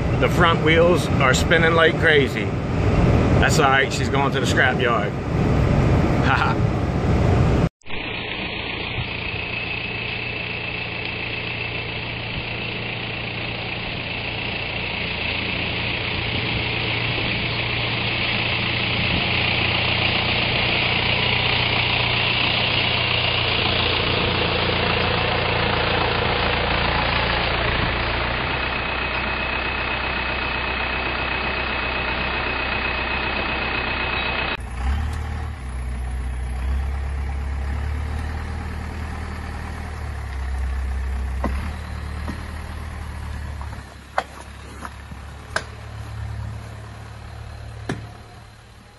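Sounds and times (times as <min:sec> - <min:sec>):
high whine: 0:00.0 - 0:48.9
truck engine running: 0:00.0 - 0:48.9.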